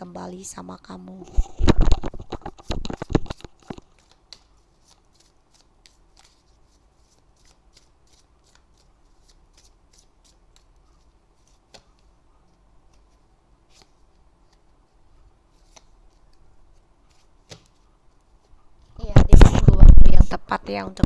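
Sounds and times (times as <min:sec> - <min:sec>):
cards being shuffled: 0:01.3 - 0:12.1, 0:12.8 - 0:14.8, 0:15.5 - 0:20.2.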